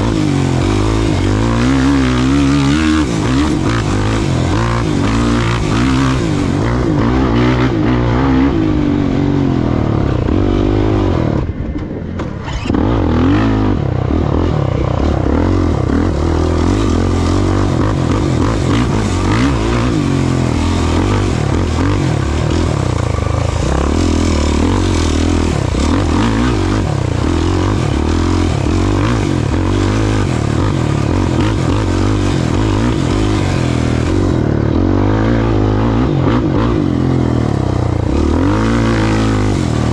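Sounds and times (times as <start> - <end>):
race vehicle engine revving: 0.0 - 11.6, 12.4 - 39.9.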